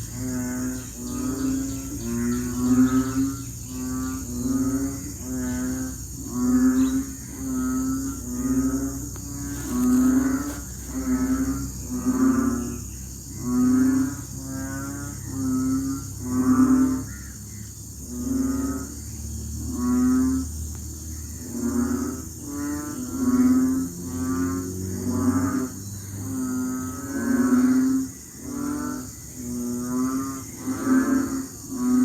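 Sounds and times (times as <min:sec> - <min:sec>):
frogs croaking: 0:00.0 - 0:32.0
steady high-pitched hiss: 0:00.0 - 0:32.0.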